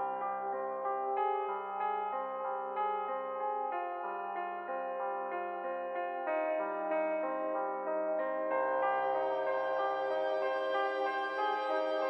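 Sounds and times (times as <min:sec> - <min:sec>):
soft keyboard music: 0:00.0 - 0:12.0.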